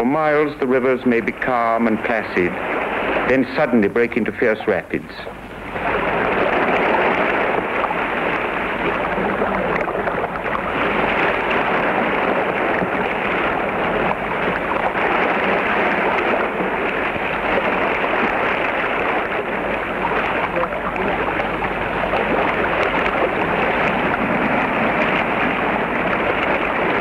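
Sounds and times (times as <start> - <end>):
white water rushing: 0.0 - 27.0.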